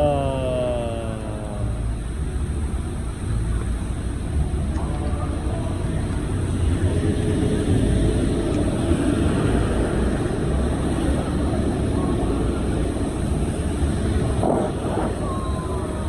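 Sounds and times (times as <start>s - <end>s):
bus engine drone: 0.0s - 16.0s
road noise: 0.0s - 16.0s.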